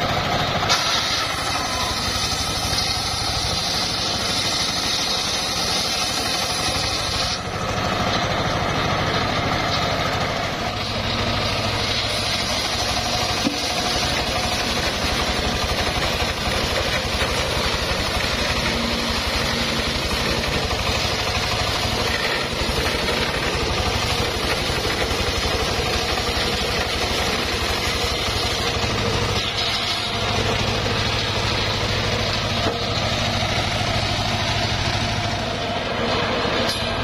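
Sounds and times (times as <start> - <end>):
sawmill engine running: 0.0 - 37.0.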